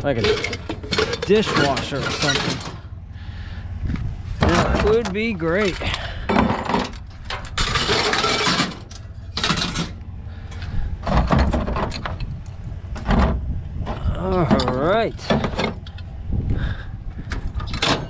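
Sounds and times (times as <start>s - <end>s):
scrap metal clinks and knocks: 0.0s - 2.9s, 4.4s - 16.1s, 17.3s - 18.0s
metal scraping rattle: 0.0s - 3.0s, 4.2s - 16.2s, 17.2s - 18.0s.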